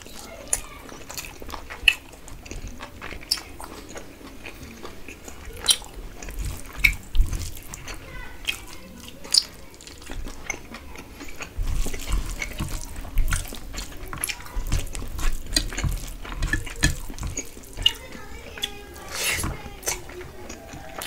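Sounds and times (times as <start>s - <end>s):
fingers squishing rice: 0.0s - 21.0s
wet chewing: 0.0s - 21.0s.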